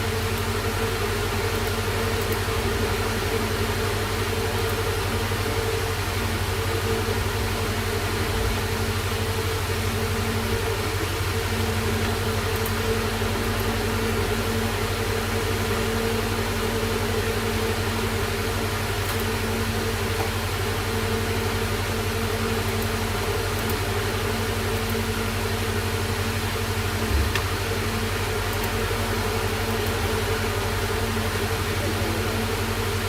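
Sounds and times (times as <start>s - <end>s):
steady background hum with hiss: 0.0s - 33.0s.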